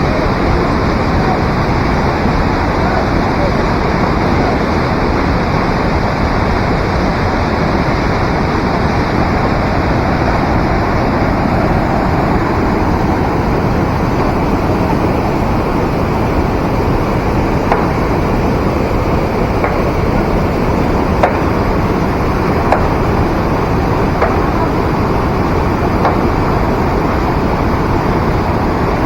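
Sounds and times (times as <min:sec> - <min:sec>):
rushing water roar: 0:00.0 - 0:29.0.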